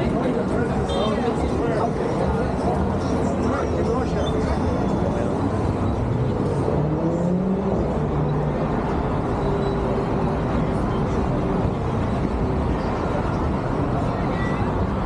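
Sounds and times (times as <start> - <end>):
rumble of cars passing: 0.0 - 15.0.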